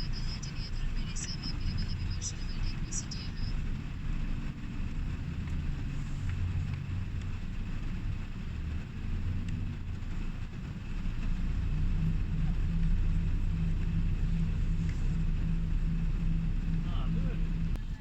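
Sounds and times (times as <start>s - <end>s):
motor vehicle rumbling: 0.0s - 18.0s.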